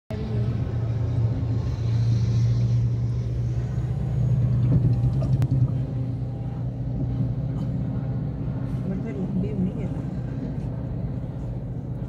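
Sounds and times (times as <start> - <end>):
car engine hum inside cabin: 0.1 - 12.0.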